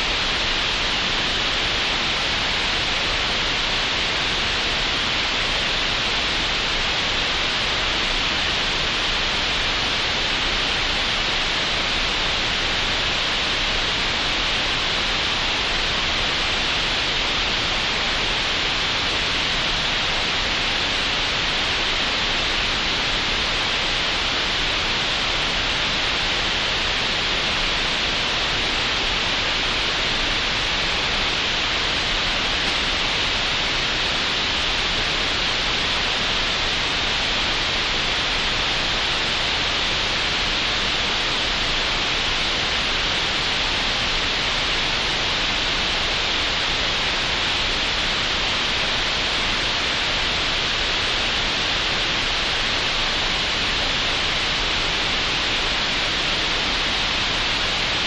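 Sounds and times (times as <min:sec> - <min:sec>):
steady synthetic noise hiss: 0:00.0 - 0:58.0.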